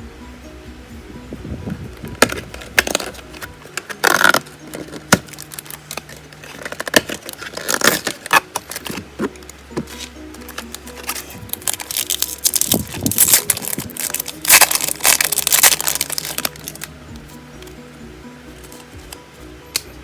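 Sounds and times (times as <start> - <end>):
soft background music: 0.0 - 20.0
trading cards crinkling and clicking: 2.0 - 17.8, 18.5 - 19.9.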